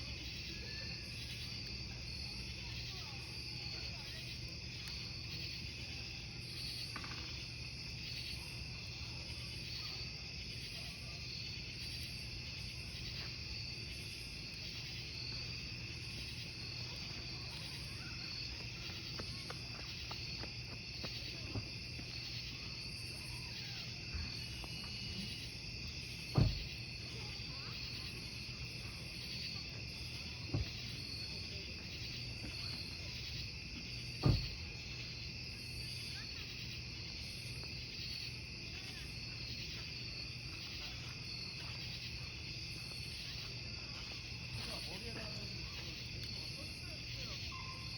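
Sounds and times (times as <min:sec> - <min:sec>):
crackling campfire: 0:00.0 - 0:47.9
crickets chirping: 0:00.0 - 0:47.9.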